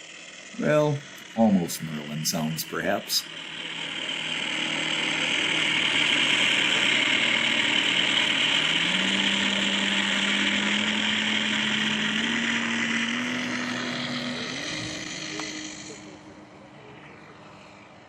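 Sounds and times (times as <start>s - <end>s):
electric motor and propeller whir: 0.0s - 18.0s
imitation propeller engine note: 0.0s - 18.0s.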